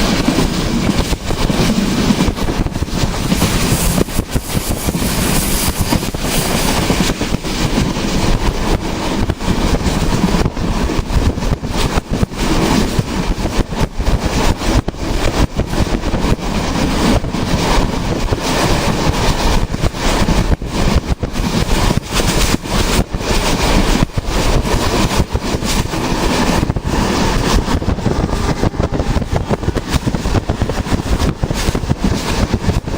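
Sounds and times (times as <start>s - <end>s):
train rumbling: 0.0s - 32.9s.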